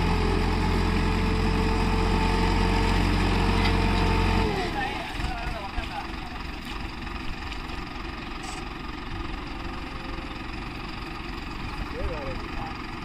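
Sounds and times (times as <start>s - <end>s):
tractor engines idling: 0.0s - 13.0s.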